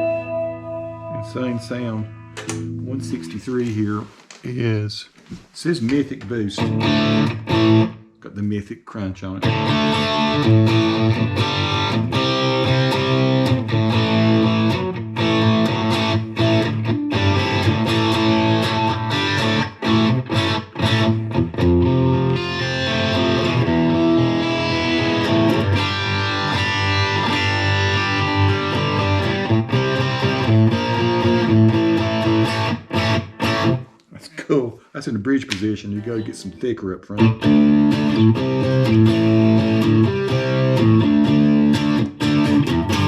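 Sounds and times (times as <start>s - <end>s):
overdriven electric guitar: 0.0s - 3.3s, 6.6s - 8.0s, 9.4s - 34.0s, 35.9s - 43.0s.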